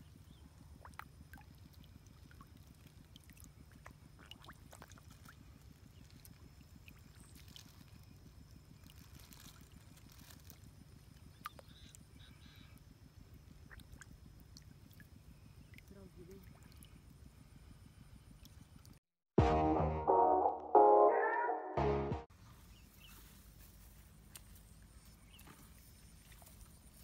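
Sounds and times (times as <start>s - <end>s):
small water splashes and ticks: 0.0s - 19.0s, 23.3s - 27.0s.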